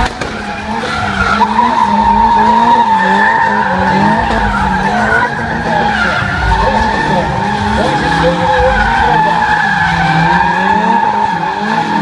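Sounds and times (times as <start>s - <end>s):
car engines revving hard: 0.0s - 12.0s
tyres squealing: 0.3s - 12.0s.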